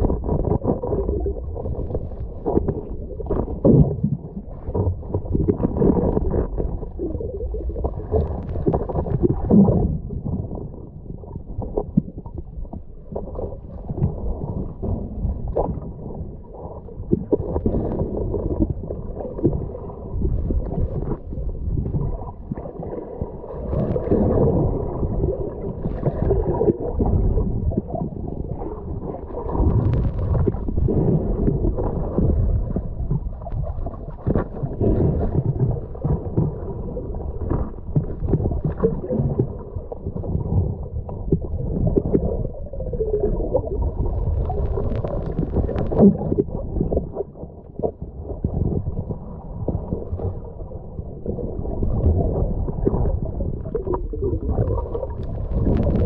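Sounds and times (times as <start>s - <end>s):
muffled underwater water noise: 0.0s - 56.0s.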